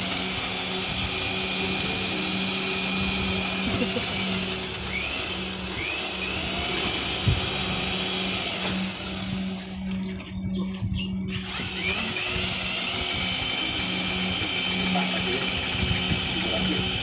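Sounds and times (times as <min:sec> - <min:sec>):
electric drill mixing mortar: 0:00.0 - 0:17.0.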